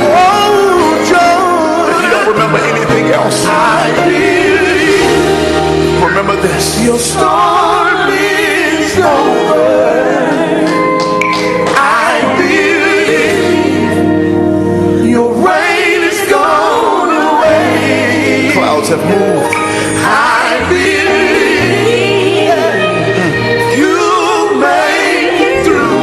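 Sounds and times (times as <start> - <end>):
backing singers: 0.0 - 14.2, 14.9 - 26.0
bass: 0.0 - 26.0
gospel song with solo vocals: 0.0 - 26.0.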